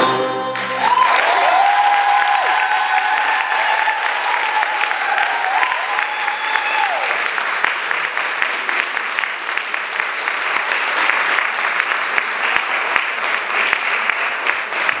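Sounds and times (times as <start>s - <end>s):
audience applauding: 0.5s - 15.0s.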